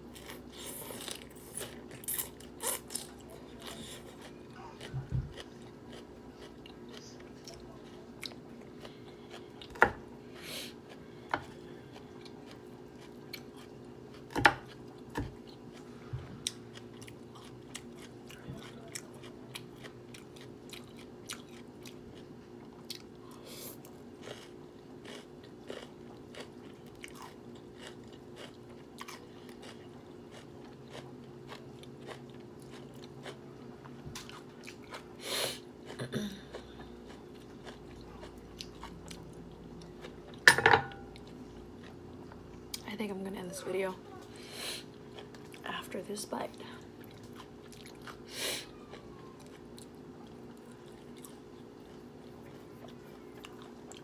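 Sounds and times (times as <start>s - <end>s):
chewing and biting food: 0.1s - 35.2s, 35.8s - 42.8s, 46.6s - 54.0s.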